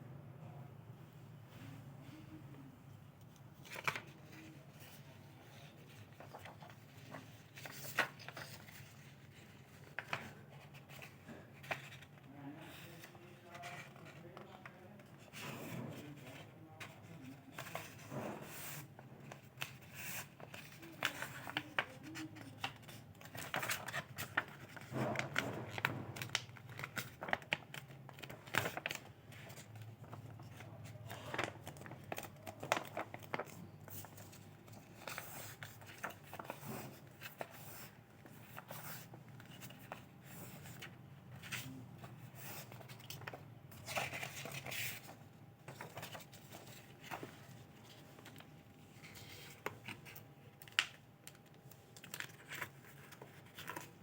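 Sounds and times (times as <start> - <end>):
paper crinkling and folding: 3.2 - 54.0.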